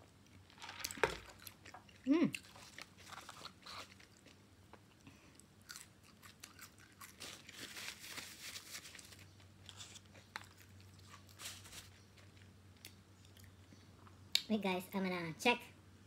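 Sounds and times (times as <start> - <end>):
chewing crunchy food: 0.0 - 14.2.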